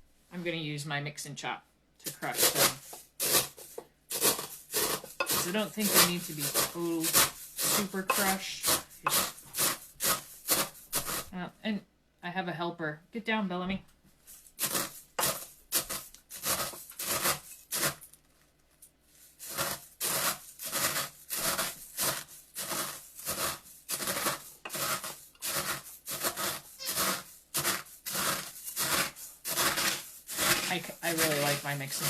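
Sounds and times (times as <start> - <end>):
cornflakes being crushed: 2.1 - 11.3, 14.3 - 32.0.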